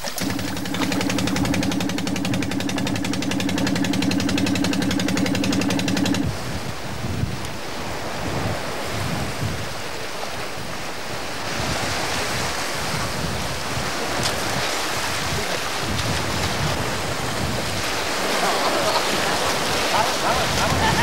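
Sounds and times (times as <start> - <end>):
surf washing onto beach: 0.0 - 21.0
wind on microphone: 0.0 - 21.0.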